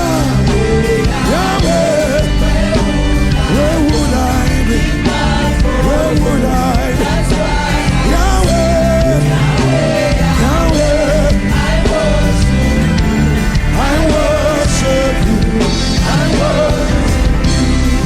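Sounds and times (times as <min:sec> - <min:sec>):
band playing gospel music: 0:00.0 - 0:18.0
person singing: 0:00.0 - 0:18.0.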